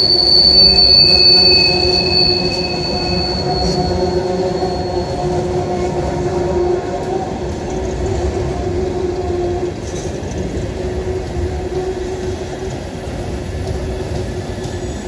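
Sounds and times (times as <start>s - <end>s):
train wheels rumbling on rail: 0.0s - 15.0s
wheels squealing: 0.0s - 15.0s.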